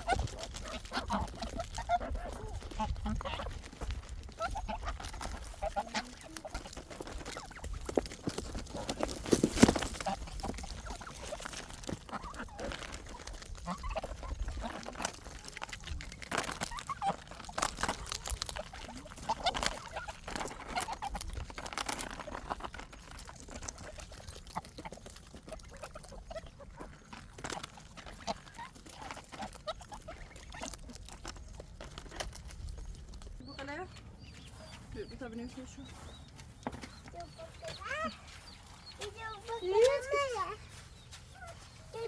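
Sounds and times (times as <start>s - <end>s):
poultry clucking and calling: 0.0s - 42.0s.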